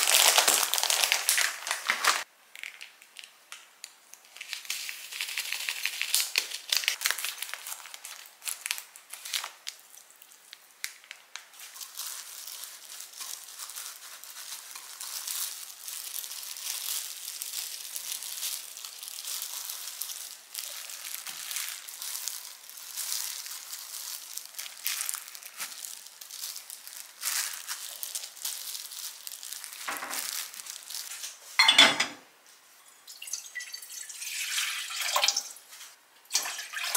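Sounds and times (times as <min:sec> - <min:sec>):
plastic packaging crackling: 0:00.0 - 0:31.7
plastic gloves crinkling: 0:00.0 - 0:31.8, 0:35.3 - 0:36.9.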